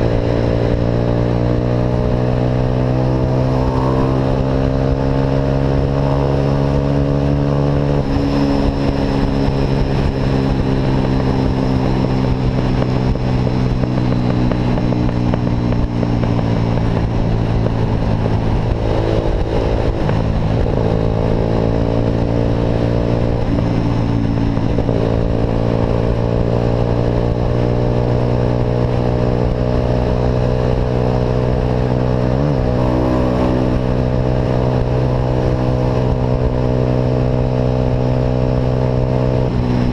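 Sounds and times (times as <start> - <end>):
car exhaust droning while driving: 0.0 - 39.9.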